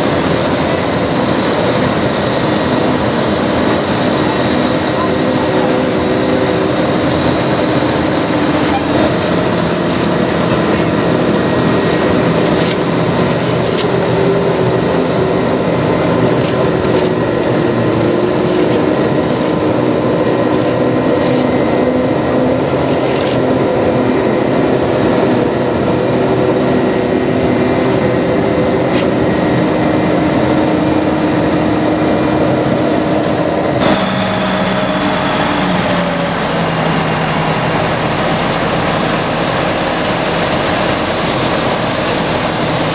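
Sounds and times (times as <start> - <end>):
diesel paving machinery running: 0.0 - 42.9.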